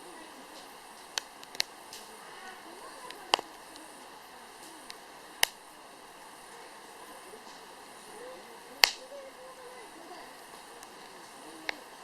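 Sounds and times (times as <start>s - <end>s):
fire popping: 0.0s - 12.0s
firewood crackling: 0.0s - 12.0s
low steady hiss: 0.0s - 12.0s.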